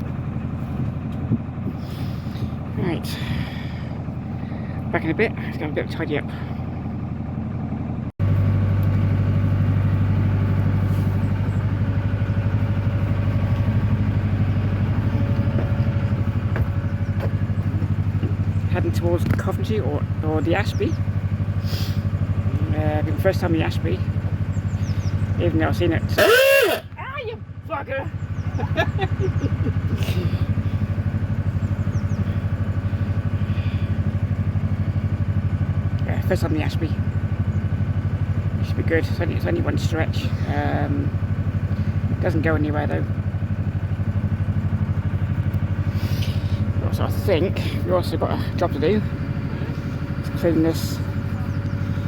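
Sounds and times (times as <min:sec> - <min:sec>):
diesel engine chugging: 0:00.0 - 0:52.0.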